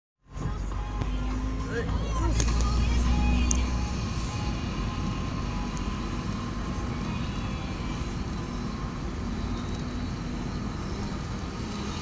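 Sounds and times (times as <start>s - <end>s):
vehicle engine and tyre noise: 0.2s - 12.0s.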